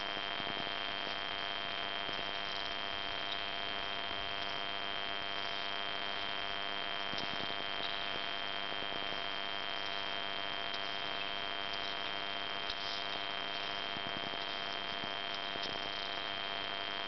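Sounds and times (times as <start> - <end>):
faint hum: 0.0 - 17.0
steady electronic hiss: 0.0 - 17.0
thin high-pitched whine: 0.0 - 17.0.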